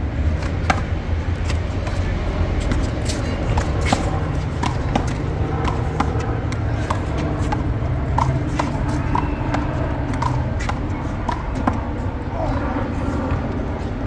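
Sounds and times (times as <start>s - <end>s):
low traffic rumble: 0.0s - 14.0s.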